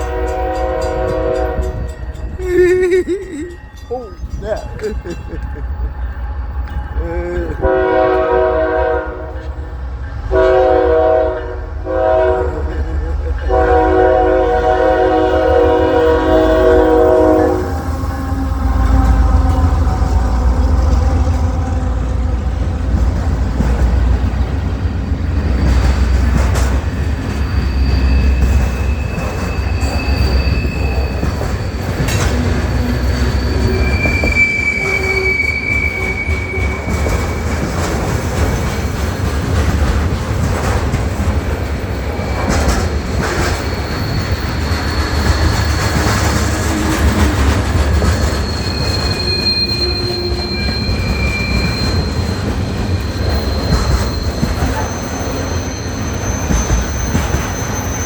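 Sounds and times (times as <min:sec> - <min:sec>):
train rumbling: 0:00.0 - 0:58.0
wheels squealing on rails: 0:00.0 - 0:58.0.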